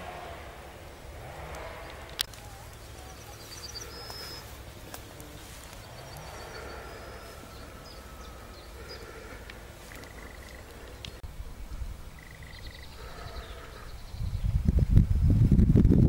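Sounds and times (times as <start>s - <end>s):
wind rumble on microphone: 0.0s - 16.0s
small birds chirping: 0.8s - 14.7s.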